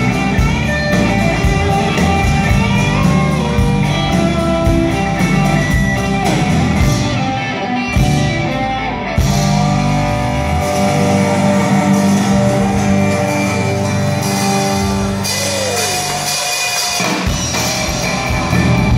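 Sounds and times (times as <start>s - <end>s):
rock band playing live: 0.0s - 18.9s.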